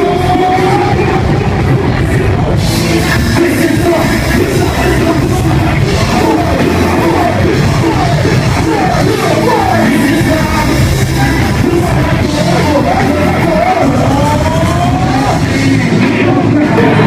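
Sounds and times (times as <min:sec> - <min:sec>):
live rock music: 0:00.0 - 0:17.0
shouted vocals: 0:00.0 - 0:17.0.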